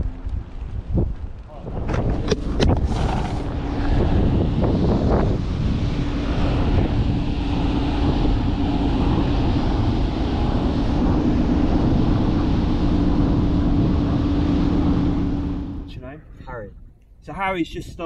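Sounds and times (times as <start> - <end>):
constant low hum: 0.0 - 18.0
wind buffeting microphone: 0.0 - 18.0.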